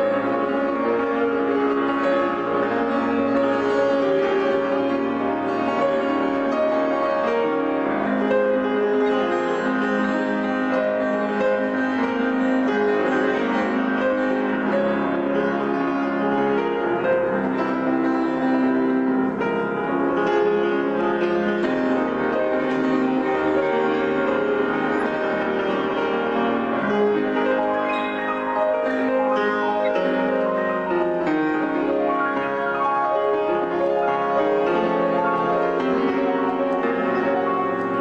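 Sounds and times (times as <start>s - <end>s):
piano hymn music: 0.0s - 38.0s.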